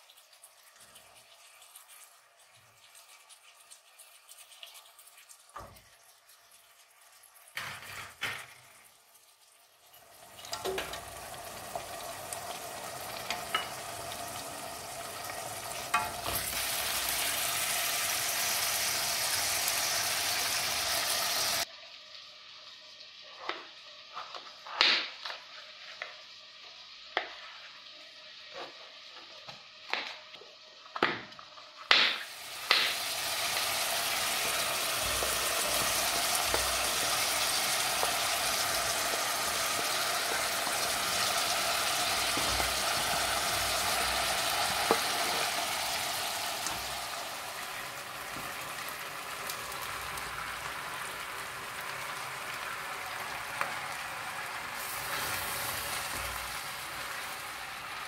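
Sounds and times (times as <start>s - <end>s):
meat sizzling in a pot: 0.0s - 58.0s.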